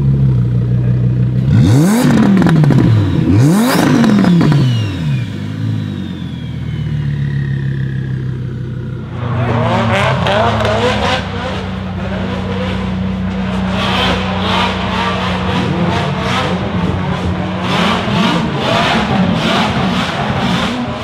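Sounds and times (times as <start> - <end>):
car engine revving and idling: 0.0 - 21.0
engine revving with crackles: 1.4 - 7.4, 9.1 - 21.0.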